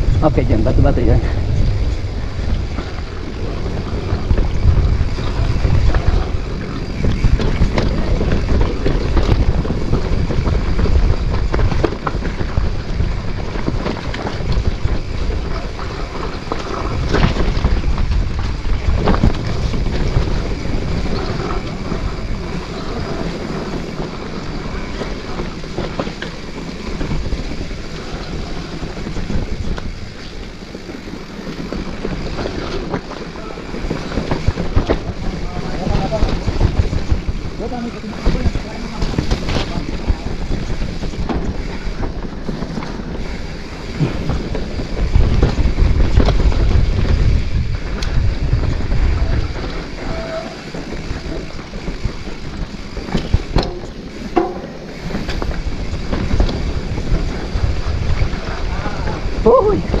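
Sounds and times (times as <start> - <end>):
bike rattling over rocks: 0.0 - 60.0
wind buffeting microphone: 0.0 - 60.0.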